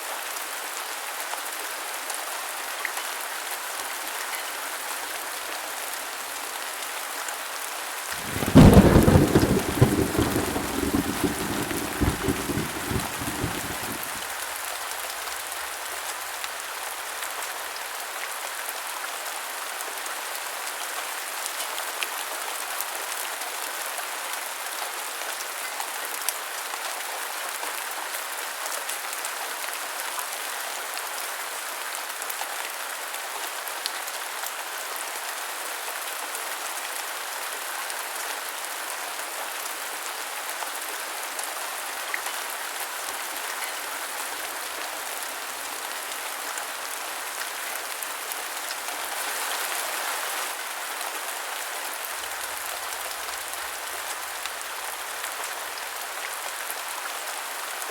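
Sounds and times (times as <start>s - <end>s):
rain on a hard surface: 0.0s - 57.9s.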